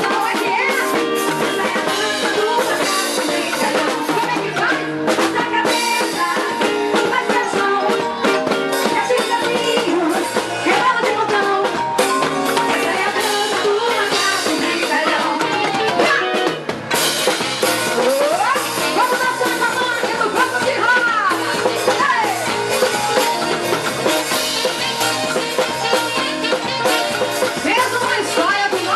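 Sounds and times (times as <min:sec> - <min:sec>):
voices singing: 0:00.0 - 0:16.5, 0:17.9 - 0:28.9
drum kit fast beat: 0:00.0 - 0:28.9
upbeat band music: 0:00.0 - 0:28.9.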